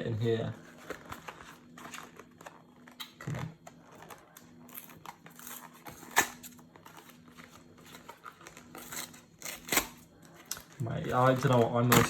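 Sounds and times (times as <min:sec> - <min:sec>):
sticker wrapper crinkling and tearing: 0:00.6 - 0:12.0.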